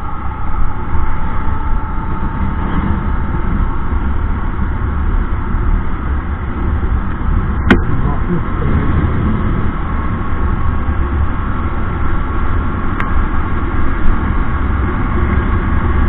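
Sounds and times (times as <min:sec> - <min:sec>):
faint whine: 0:00.0 - 0:16.0
motorcycle engine rumble: 0:00.0 - 0:16.0.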